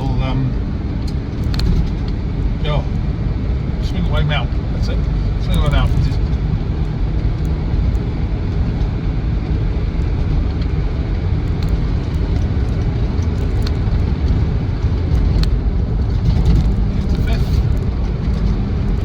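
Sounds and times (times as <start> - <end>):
diesel engine drone: 0.0 - 19.0
road rumble: 0.0 - 19.0.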